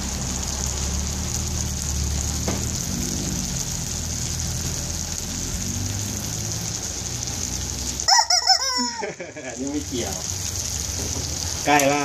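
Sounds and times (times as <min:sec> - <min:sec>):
pan sizzling: 0:00.0 - 0:12.0.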